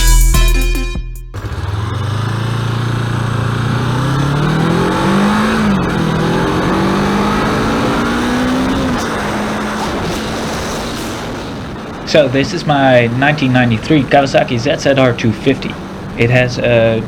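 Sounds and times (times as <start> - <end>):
motorcycle engine accelerating: 1.3 - 17.0.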